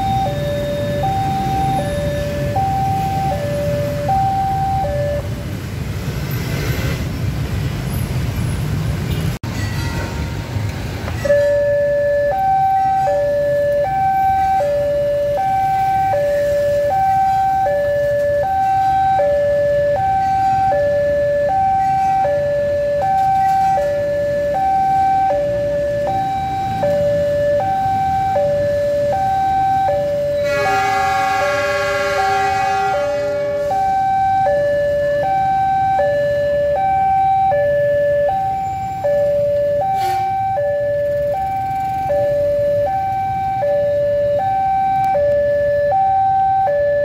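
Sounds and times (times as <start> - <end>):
two-tone level crossing alarm: 0.0 - 5.4, 11.1 - 47.0.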